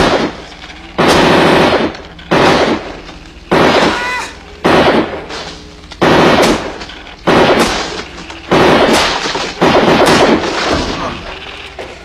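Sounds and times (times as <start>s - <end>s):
rapid gunfire bursts: 0.0s - 11.6s.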